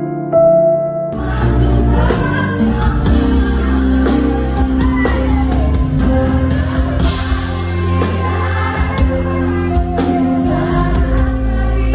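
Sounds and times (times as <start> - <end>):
live band music: 1.2 - 11.9
woman singing into microphone: 1.4 - 11.9.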